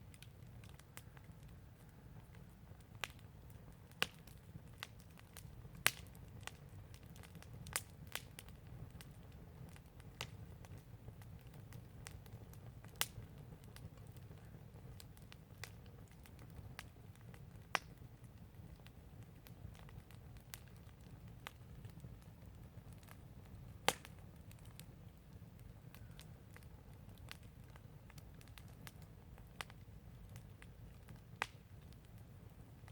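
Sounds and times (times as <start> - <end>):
garden fire crackling: 0.0 - 32.9.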